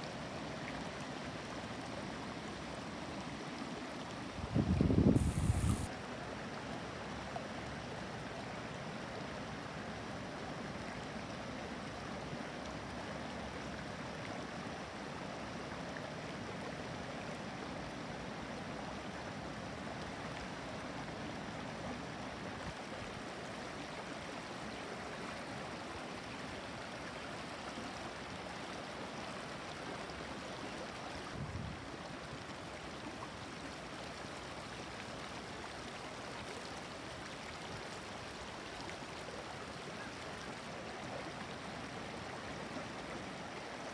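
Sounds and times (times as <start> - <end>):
stream trickling over stones: 0.0 - 43.9.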